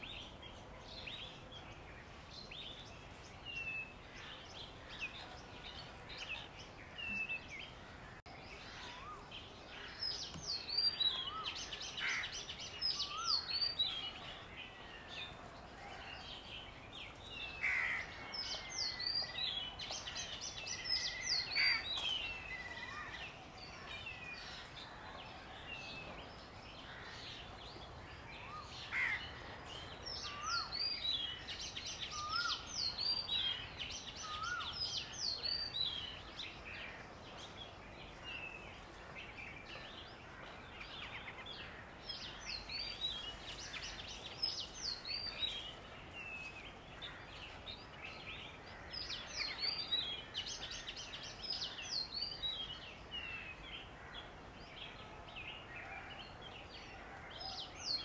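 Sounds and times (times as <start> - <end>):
outdoor background noise: 0.0 - 58.0
wild birds chirping: 0.0 - 58.0.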